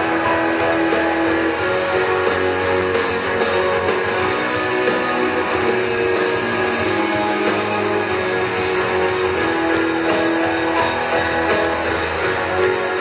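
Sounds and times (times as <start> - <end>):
electric guitar: 0.0 - 13.0
live rock band: 0.0 - 13.0.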